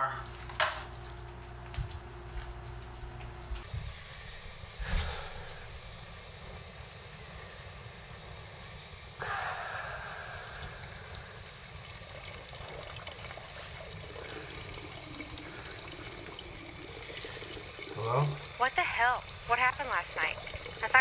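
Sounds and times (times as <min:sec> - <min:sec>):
shower water running: 0:00.3 - 0:21.0.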